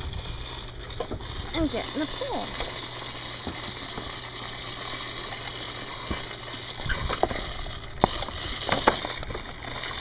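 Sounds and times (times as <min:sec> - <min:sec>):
rushing pool water: 0:00.0 - 0:10.0.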